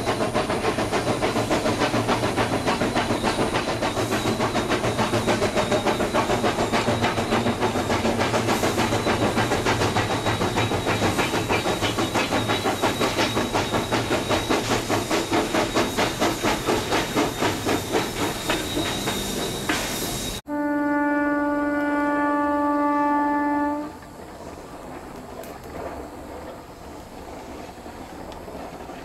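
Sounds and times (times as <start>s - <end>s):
steam locomotive exhaust chuffing: 0.0s - 29.0s.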